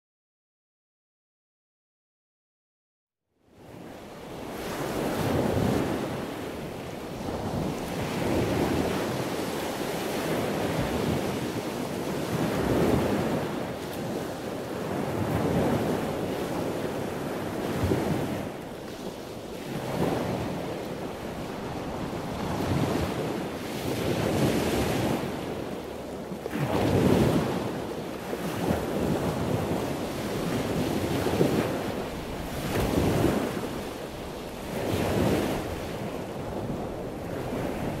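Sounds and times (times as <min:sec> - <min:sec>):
rushing water in waves: 0:03.6 - 0:38.0.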